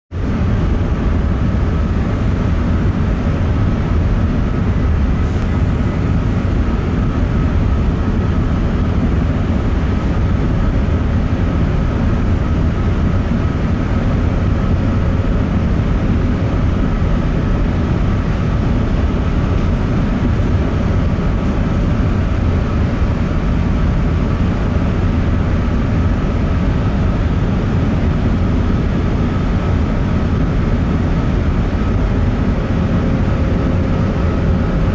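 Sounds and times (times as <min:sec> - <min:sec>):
ship engines rumbling: 0:00.2 - 0:34.9.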